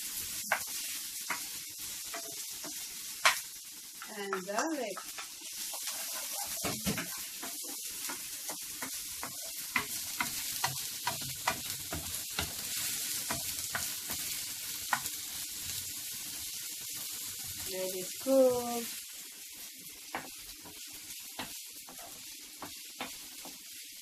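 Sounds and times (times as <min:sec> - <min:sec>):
onion and garlic sizzling in oil: 0:00.0 - 0:24.0.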